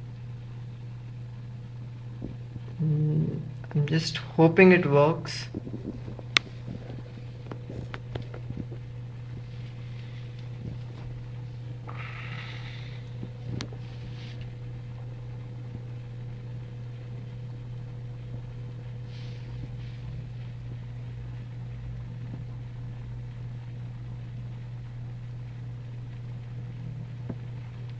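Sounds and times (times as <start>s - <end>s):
low background hum: 0.0s - 27.9s.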